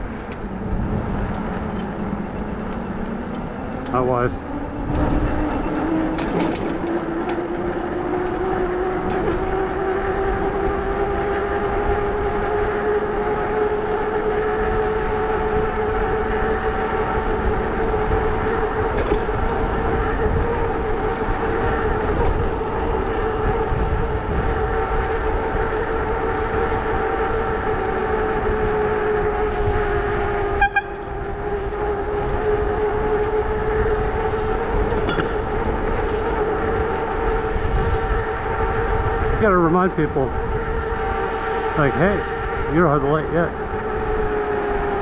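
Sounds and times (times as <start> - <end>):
electric bike motor whining: 0.0 - 45.0
wind rumble on microphone: 0.0 - 45.0.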